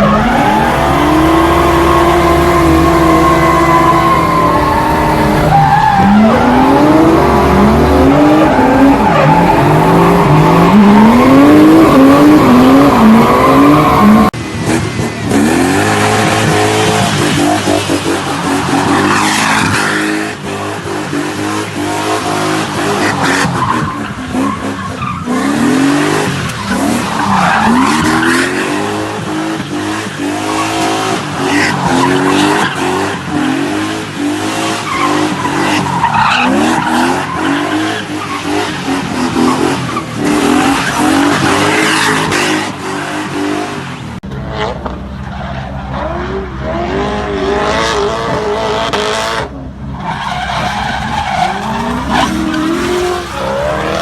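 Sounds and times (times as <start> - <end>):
car engine revving hard: 0.0 - 43.8, 50.4 - 54.0
tyres squealing and skidding: 0.0 - 43.8, 49.9 - 54.0.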